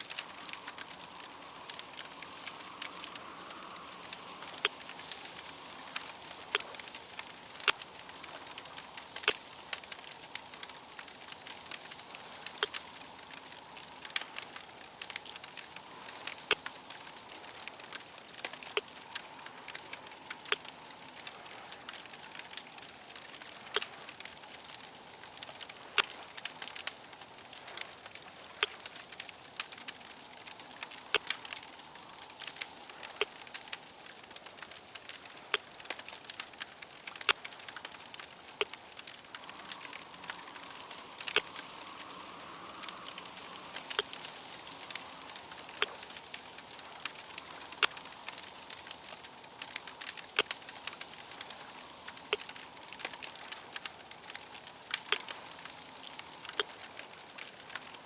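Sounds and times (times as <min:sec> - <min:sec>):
fire hissing: 0:00.0 - 0:58.0
fire popping and snapping: 0:00.0 - 0:58.0.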